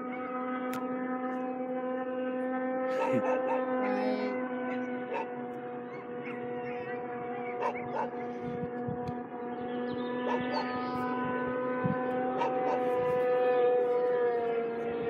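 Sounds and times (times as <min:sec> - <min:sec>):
distant snowmobile engines droning: 0:00.0 - 0:15.0
lower engine drone: 0:00.0 - 0:15.0.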